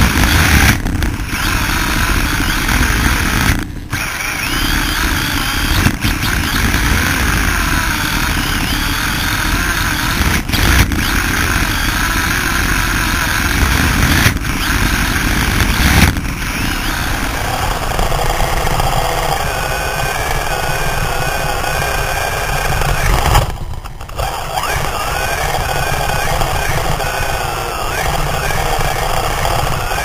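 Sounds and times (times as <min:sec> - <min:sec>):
electric motor whine: 0:00.0 - 0:30.0
vibration and tyre noise rumble: 0:00.0 - 0:30.0.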